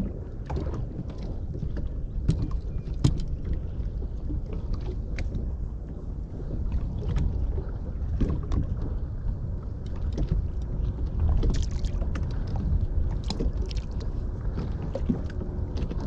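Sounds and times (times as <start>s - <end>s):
low rumble: 0.0s - 16.0s
water splashing against boat hull: 0.0s - 16.0s.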